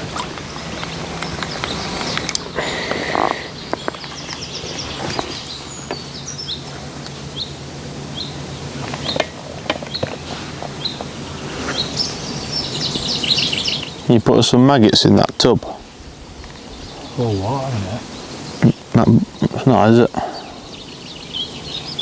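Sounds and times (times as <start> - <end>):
bird chirping: 0.0 - 14.2, 16.5 - 22.0
steady low hum: 0.0 - 22.0
bird trilling song: 0.4 - 6.7, 7.3 - 9.2, 9.8 - 14.1, 16.6 - 22.0.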